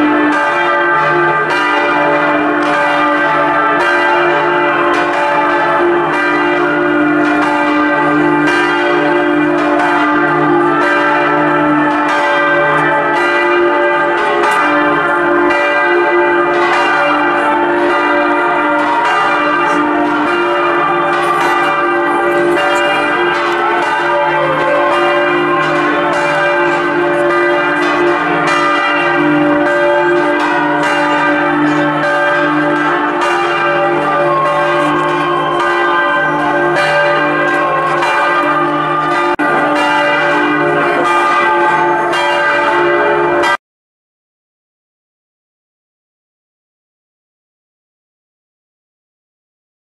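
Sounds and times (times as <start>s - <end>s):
church bells ringing: 0.0s - 43.6s.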